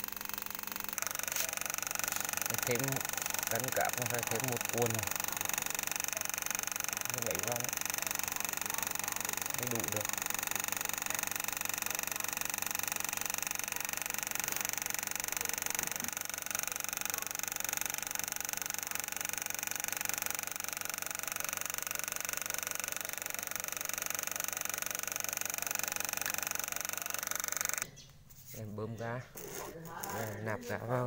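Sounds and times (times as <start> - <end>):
refrigeration compressor humming: 0.0 - 31.0.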